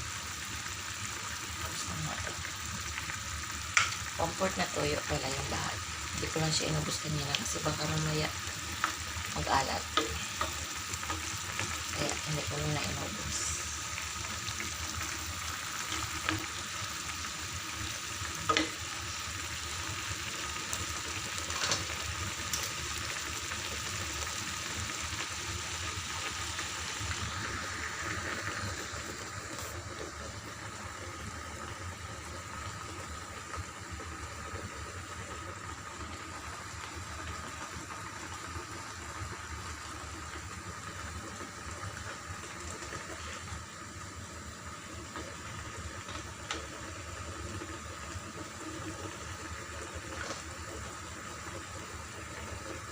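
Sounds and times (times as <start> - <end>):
sauce bubbling in pan: 0.0 - 52.9.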